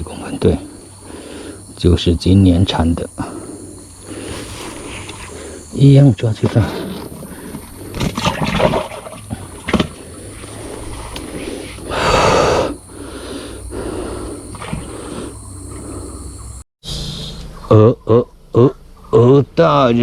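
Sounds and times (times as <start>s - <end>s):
high-pitched insect drone: 0.0s - 17.9s.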